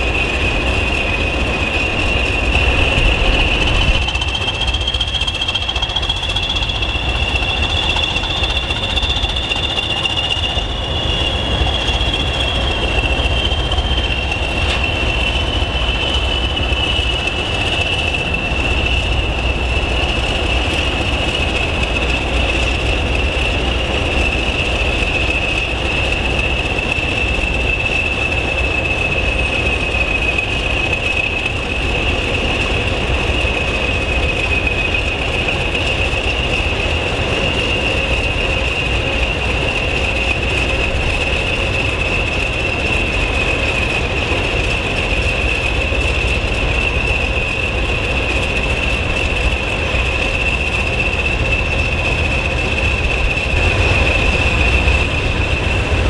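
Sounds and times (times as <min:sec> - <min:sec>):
diesel locomotives passing: 0:00.0 - 0:56.0
turbocharger whistle: 0:00.0 - 0:56.0.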